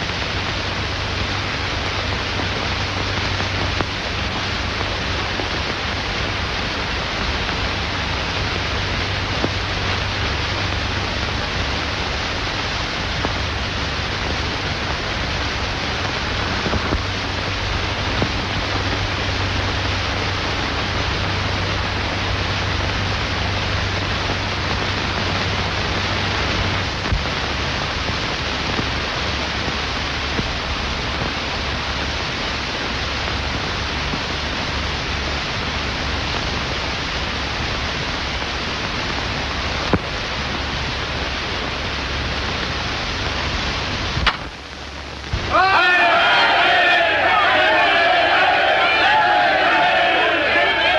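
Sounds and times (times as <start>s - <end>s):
faint crackles: 0.0s - 45.6s
film soundtrack hiss: 0.0s - 50.9s.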